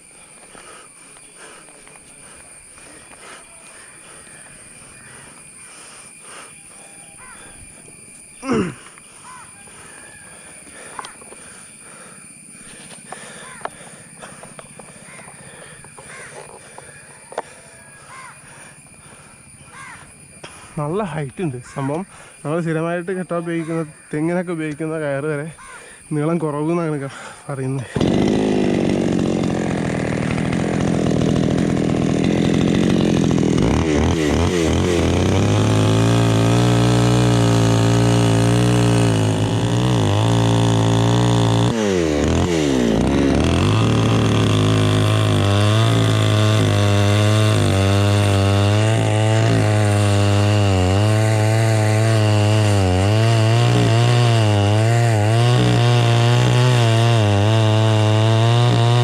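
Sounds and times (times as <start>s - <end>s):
chainsaw cutting wood: 0.0s - 6.5s, 8.1s - 20.7s, 23.3s - 59.0s.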